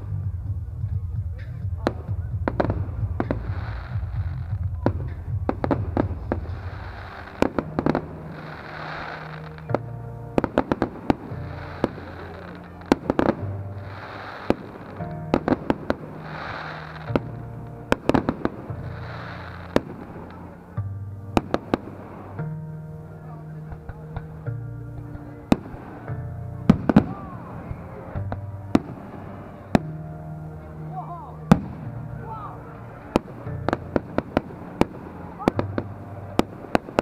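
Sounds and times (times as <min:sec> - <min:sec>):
crackling fireworks: 0:00.0 - 0:37.0
music with low bass: 0:00.0 - 0:37.0
fireworks bursting: 0:01.4 - 0:20.6, 0:21.4 - 0:22.5, 0:23.6 - 0:30.1, 0:31.4 - 0:37.0.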